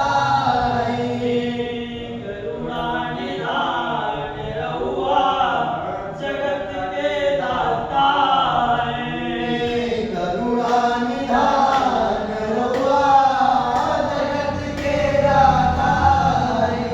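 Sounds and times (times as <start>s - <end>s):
voices singing devotional song: 0.0s - 16.9s.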